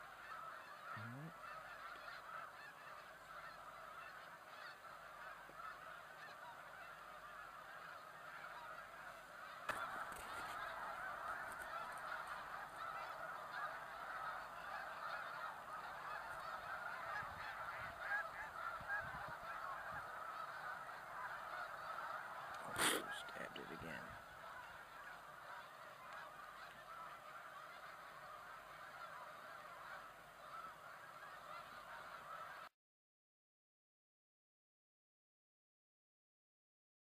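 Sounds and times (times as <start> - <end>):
distant flock of geese honking: 0.0 - 32.7.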